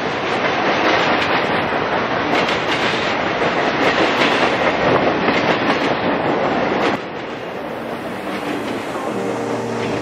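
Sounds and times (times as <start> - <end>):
train rumble: 0.0 - 10.0.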